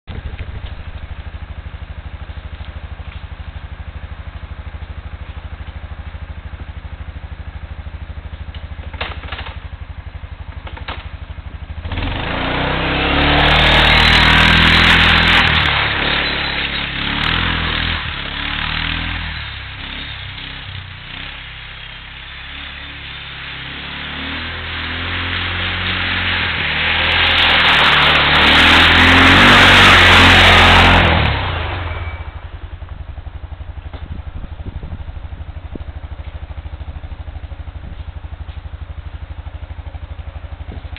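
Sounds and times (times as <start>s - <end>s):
atv engine idling and revving: 0.0s - 40.9s.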